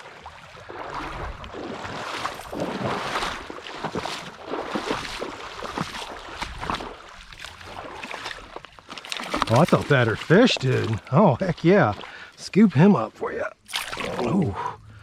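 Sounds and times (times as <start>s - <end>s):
creek water splashing: 0.0s - 15.0s.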